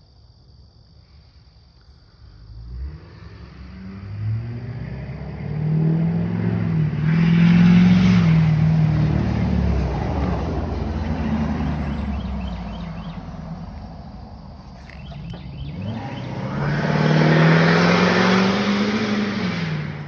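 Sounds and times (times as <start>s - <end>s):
truck driving past: 3.2s - 20.0s.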